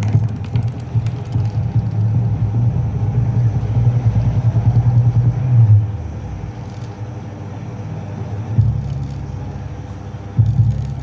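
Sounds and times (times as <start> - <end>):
pulsing deep bass rumble: 0.0 - 11.0.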